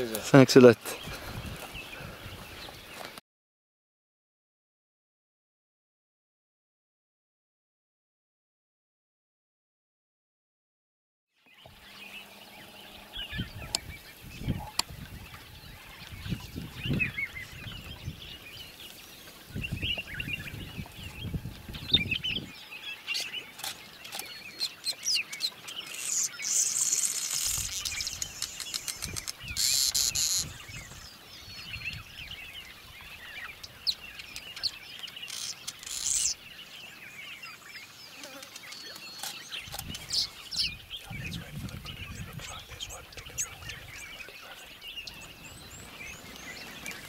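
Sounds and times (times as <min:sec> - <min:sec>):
wild birds chirping and calling: 0:00.0 - 0:03.1, 0:11.4 - 0:47.0.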